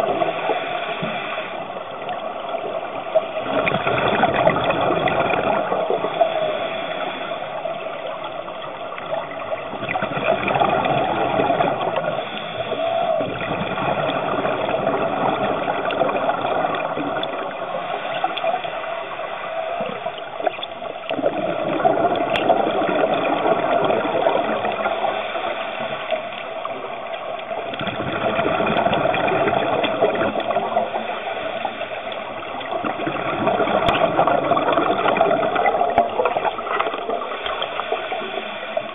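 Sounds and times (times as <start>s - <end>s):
exhaled air bubbling: 0.0s - 38.9s
underwater rush: 0.0s - 38.9s.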